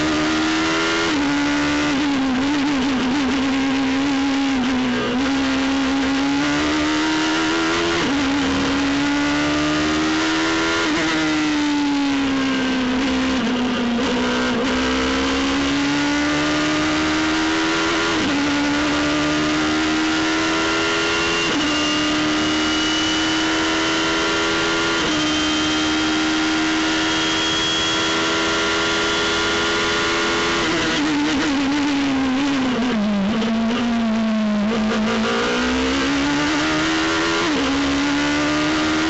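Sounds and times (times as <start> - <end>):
race car engine revving: 0.0 - 39.0.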